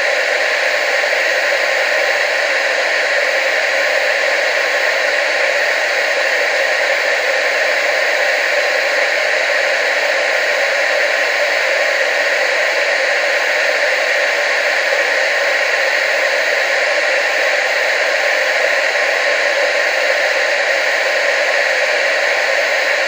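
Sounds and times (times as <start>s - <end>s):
tv static hiss: 0.0s - 23.0s.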